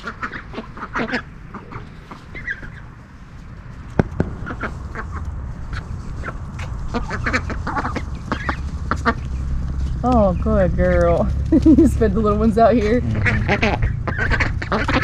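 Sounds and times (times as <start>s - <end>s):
ducks quacking and clucking: 0.0s - 3.0s, 4.4s - 9.7s, 10.9s - 15.0s.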